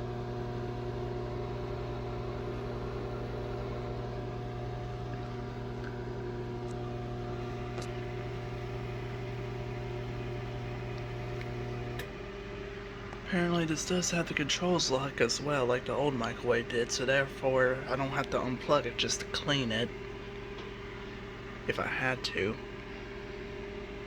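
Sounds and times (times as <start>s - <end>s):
microwave oven humming: 0.0s - 24.0s.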